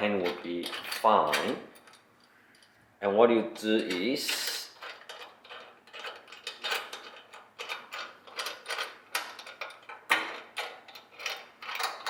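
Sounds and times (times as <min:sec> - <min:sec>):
metal parts clicking and scraping: 0:00.0 - 0:02.8, 0:03.6 - 0:12.0.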